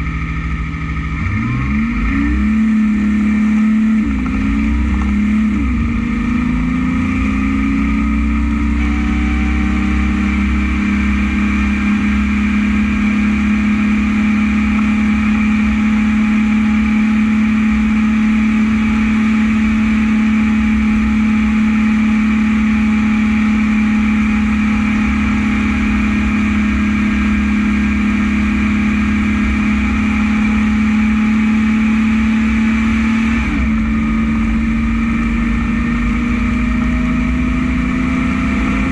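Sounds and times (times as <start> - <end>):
dump truck diesel engine: 0.0 - 38.9.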